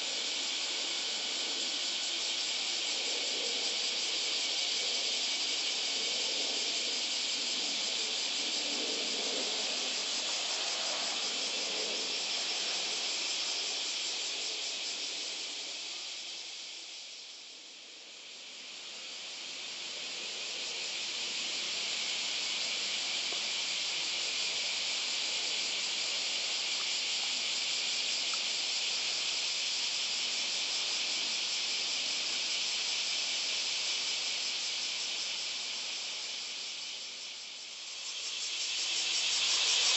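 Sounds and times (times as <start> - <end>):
cicadas buzzing in chorus: 0.0 - 39.9.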